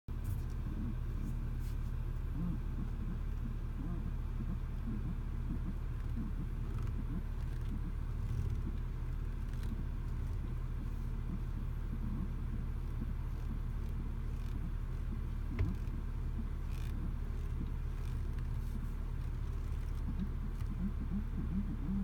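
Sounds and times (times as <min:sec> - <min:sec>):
low road rumble: 0:00.1 - 0:22.0.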